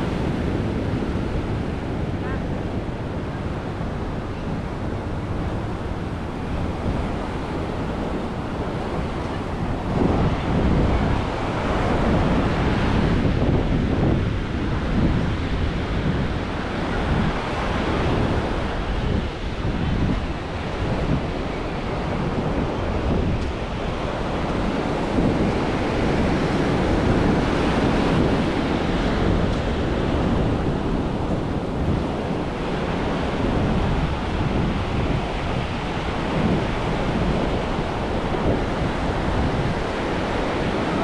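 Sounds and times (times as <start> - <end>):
waves breaking on beach: 0.0 - 41.0
wind buffeting microphone: 0.0 - 41.0.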